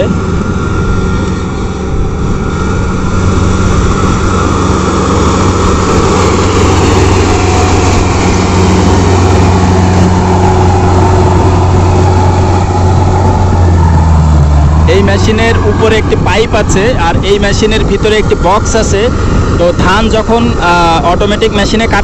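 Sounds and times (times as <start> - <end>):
combine harvester engine hum: 0.0 - 22.0
mechanical rushing noise: 0.0 - 22.0.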